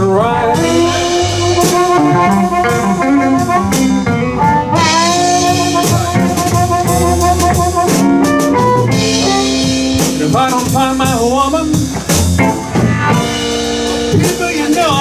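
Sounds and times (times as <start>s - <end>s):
blues band playing: 0.0s - 15.0s
harmonica bending notes: 0.1s - 15.0s.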